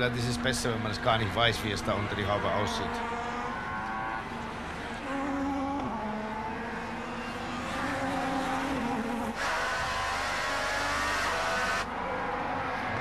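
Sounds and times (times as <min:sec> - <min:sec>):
racing car engine at high revs: 0:00.4 - 0:13.0.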